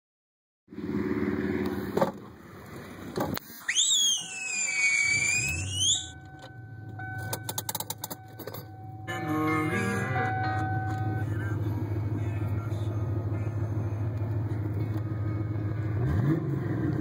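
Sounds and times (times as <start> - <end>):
car engine idling: 0.7 - 16.2
car engine running: 0.7 - 17.0
starter whine: 3.1 - 17.0.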